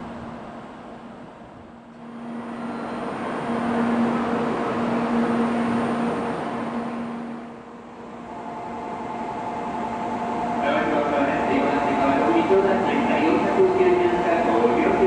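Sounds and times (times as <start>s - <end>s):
high-speed train rushing: 0.0s - 15.0s.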